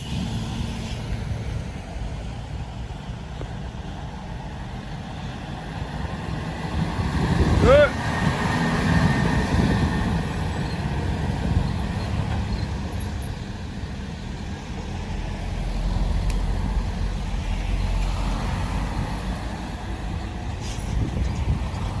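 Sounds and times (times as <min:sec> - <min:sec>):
traffic noise: 0:00.0 - 0:22.0
truck engine rumble: 0:00.0 - 0:22.0.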